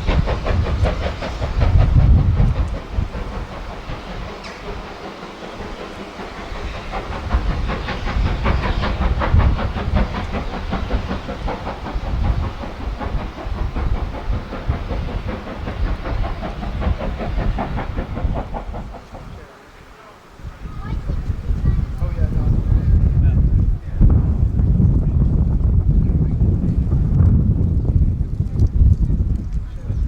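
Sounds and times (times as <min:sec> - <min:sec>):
steam train rumbling and hissing: 0:00.0 - 0:30.0.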